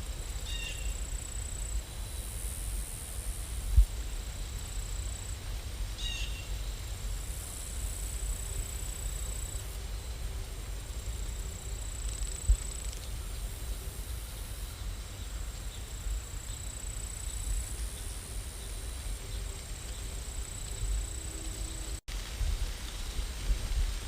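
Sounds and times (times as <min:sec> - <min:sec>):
steady rain: 0:01.0 - 0:24.0.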